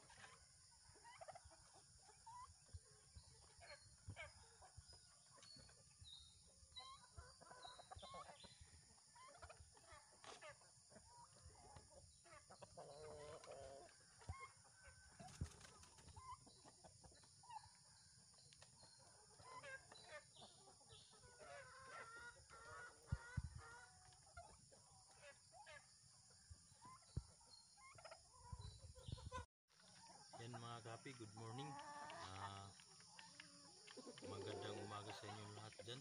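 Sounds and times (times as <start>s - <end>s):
hens clucking: 0.0s - 36.0s.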